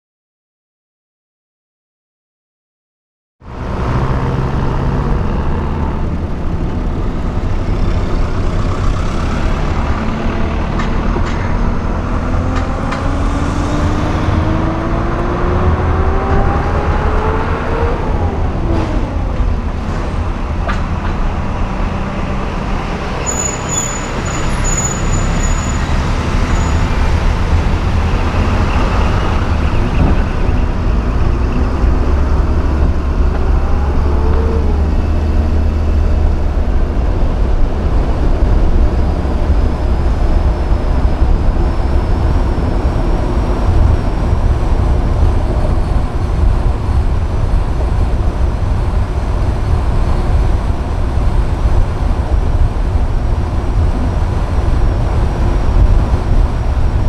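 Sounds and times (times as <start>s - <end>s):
car engine and road rumble: 3.4s - 57.0s.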